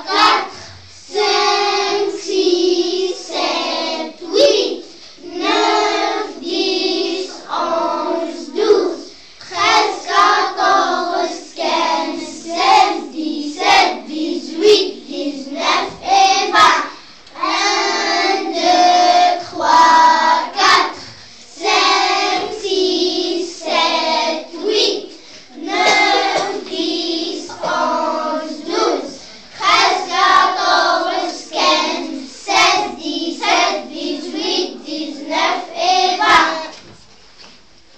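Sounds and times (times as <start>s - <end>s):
children singing in unison: 0.0s - 36.9s.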